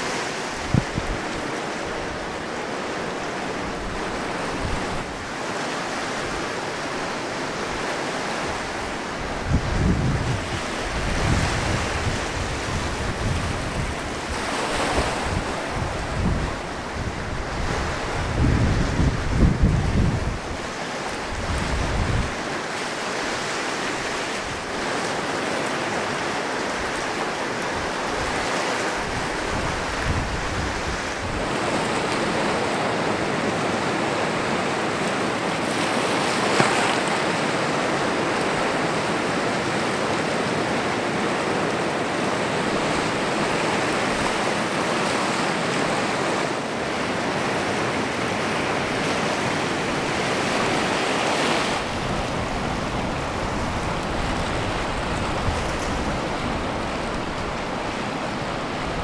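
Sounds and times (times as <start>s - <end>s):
ocean surf washing on shore: 0.0s - 59.0s
wind buffeting microphone: 0.0s - 59.0s.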